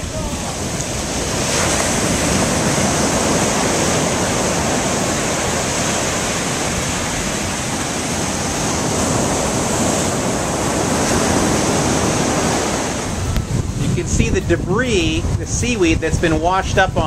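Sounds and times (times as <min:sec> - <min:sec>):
rough surf breaking on shore: 0:00.0 - 0:17.0.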